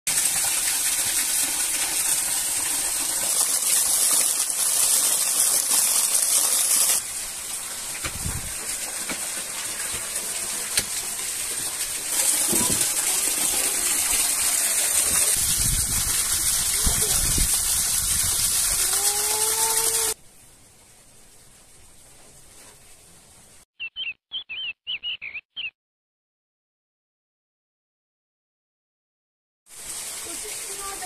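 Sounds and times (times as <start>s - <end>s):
rushing water hiss: 0.1s - 23.7s, 29.7s - 31.0s.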